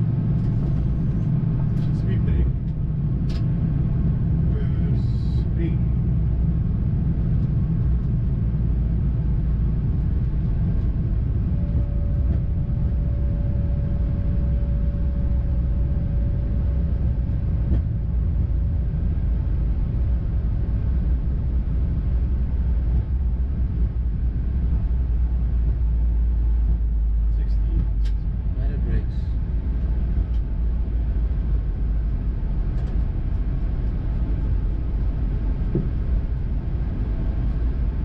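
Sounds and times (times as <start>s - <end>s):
engine and airflow noise: 0.0s - 38.0s
faint steady whine: 0.0s - 38.0s
tyres rumbling on runway: 0.0s - 38.0s.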